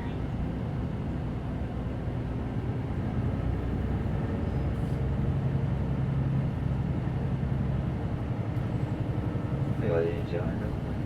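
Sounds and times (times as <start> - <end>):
bus diesel engine drone: 0.0 - 11.0
road noise: 0.0 - 11.0.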